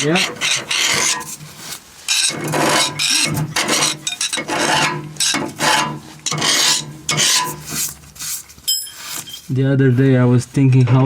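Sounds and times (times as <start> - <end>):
hand file scraping: 0.0 - 10.4.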